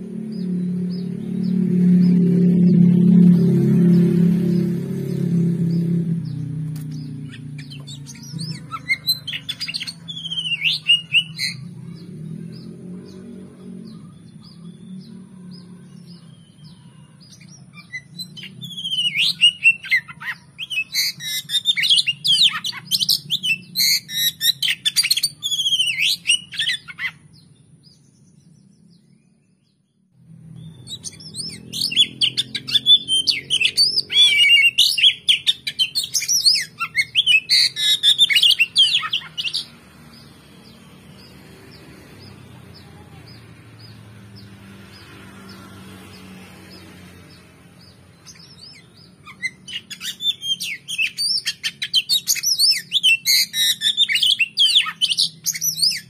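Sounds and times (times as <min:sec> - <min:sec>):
bird singing varied notes: 0:00.0 - 0:56.0.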